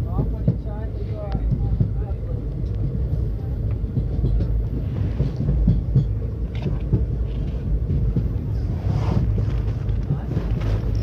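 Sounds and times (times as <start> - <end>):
train rumbling on track: 0.0 - 11.0
wheels clattering on rails: 0.0 - 11.0.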